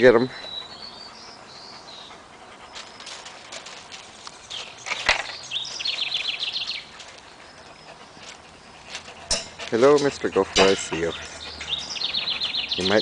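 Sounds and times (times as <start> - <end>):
bird chirping: 0.0 - 13.0
dogs panting and sniffing: 0.0 - 13.0
rustling at a fence: 1.9 - 13.0.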